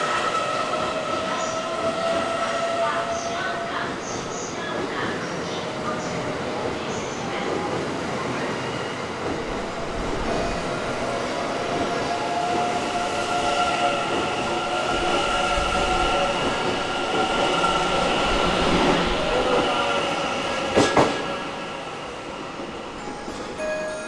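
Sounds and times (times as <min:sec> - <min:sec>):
train wheels rumbling on rail: 0:00.0 - 0:23.6.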